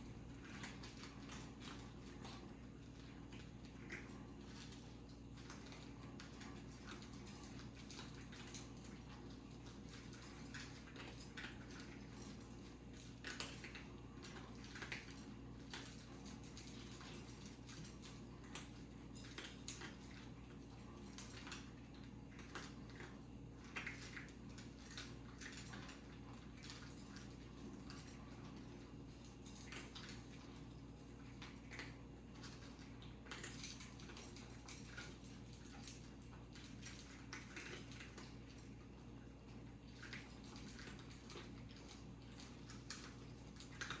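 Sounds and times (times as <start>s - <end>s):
cats eating from bowls: 0.0s - 44.0s.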